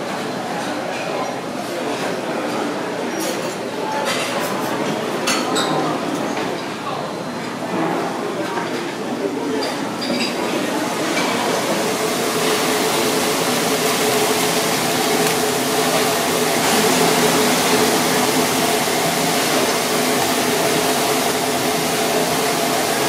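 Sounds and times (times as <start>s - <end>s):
gas burner and extractor fan roar: 0.0s - 23.0s.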